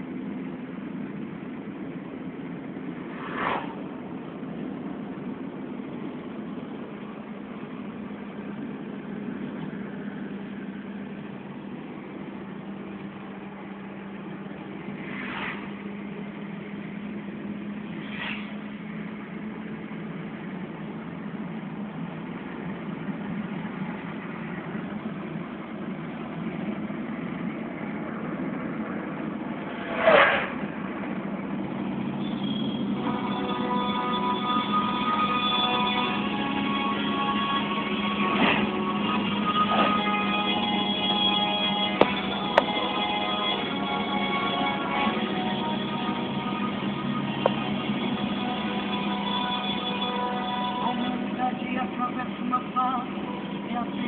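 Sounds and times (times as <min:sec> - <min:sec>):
low engine hum: 0:00.0 - 0:54.0
road noise inside car: 0:00.0 - 0:54.0.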